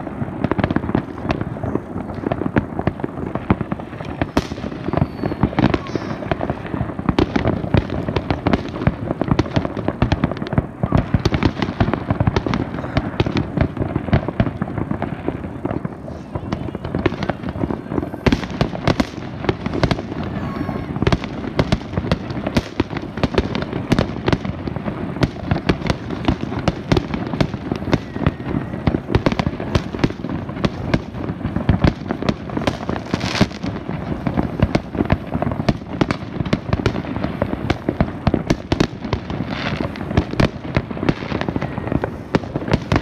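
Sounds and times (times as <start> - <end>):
fireworks bursts and bangs: 0.0 - 43.0.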